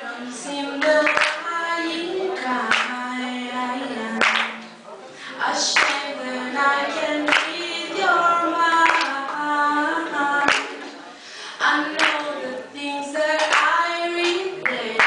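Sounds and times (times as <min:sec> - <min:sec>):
woman singing a cappella: 0:00.0 - 0:04.6, 0:05.4 - 0:15.0.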